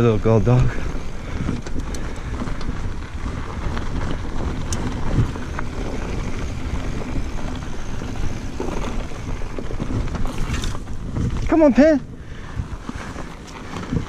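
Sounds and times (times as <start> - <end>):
mountain bike rolling on dirt trail: 0.0 - 14.0
wind on microphone: 0.0 - 14.0.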